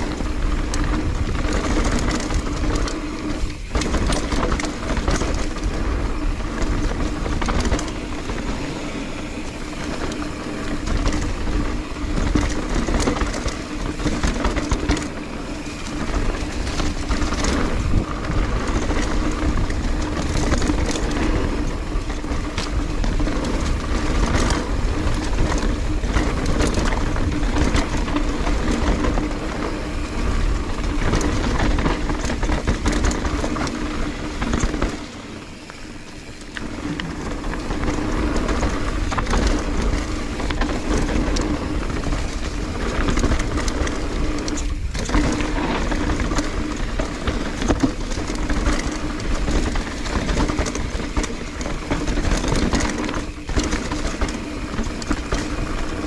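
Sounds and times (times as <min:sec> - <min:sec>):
bike chain and frame rattling: 0:00.0 - 0:56.0
bike tyres rumbling over dirt: 0:00.0 - 0:56.0
wind buffeting microphone: 0:00.0 - 0:56.0.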